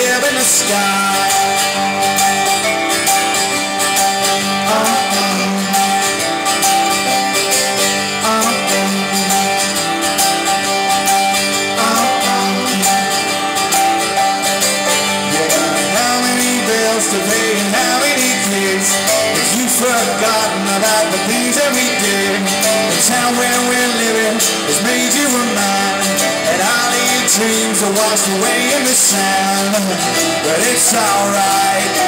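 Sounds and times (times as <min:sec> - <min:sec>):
live band playing: 0:00.0 - 0:32.0
strummed guitar: 0:00.0 - 0:32.0.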